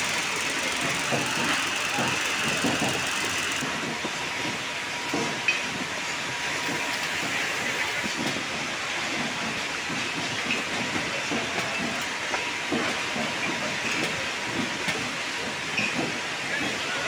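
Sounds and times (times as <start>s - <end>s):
conveyor machinery hiss and rattle: 0.0s - 17.0s.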